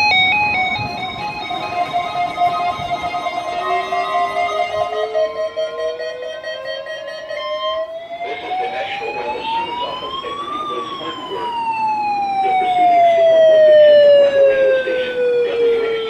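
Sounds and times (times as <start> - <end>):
siren winding up and down: 0.0 - 16.0.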